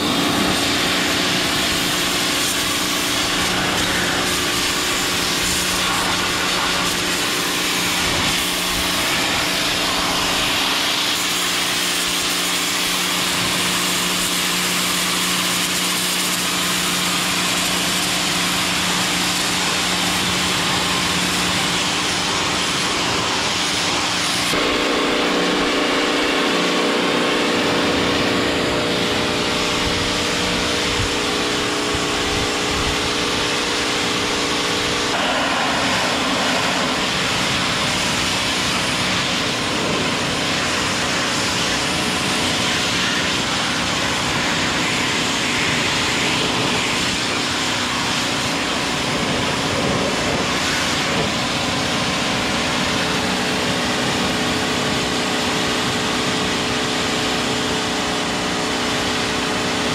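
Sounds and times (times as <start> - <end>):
high-pressure water jet hissing: 0.0 - 59.9
pressure washer motor humming: 0.0 - 59.9.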